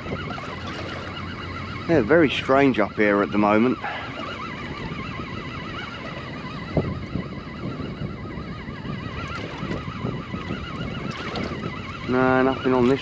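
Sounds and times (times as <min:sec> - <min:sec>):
high warbling tone: 0:00.0 - 0:13.0.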